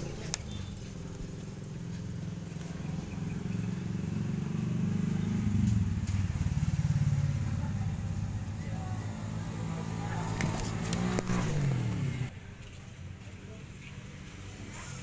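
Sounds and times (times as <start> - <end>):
engine running with pulsing hum: 0.0 - 12.3.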